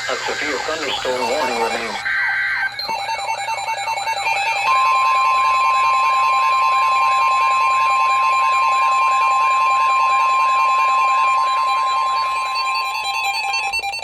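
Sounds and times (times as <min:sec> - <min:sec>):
steady alarm tone: 0:00.0 - 0:14.0.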